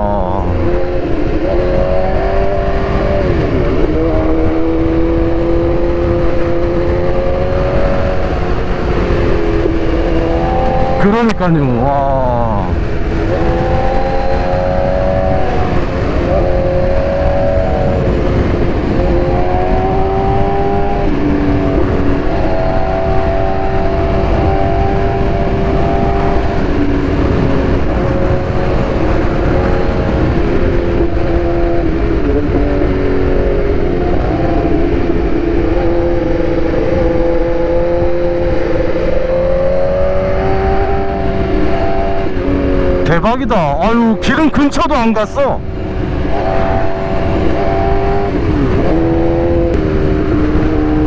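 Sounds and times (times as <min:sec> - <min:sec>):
wind noise: 0:00.0 - 0:51.0.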